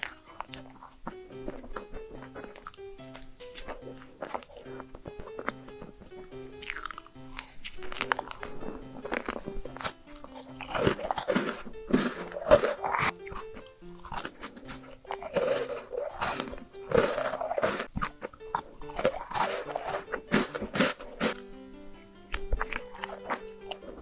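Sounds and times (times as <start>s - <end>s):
chocolate crunching bites: 0.0s - 21.5s, 22.3s - 24.0s
wet chewing: 0.0s - 21.5s, 22.3s - 24.0s
soft background music: 0.0s - 24.0s.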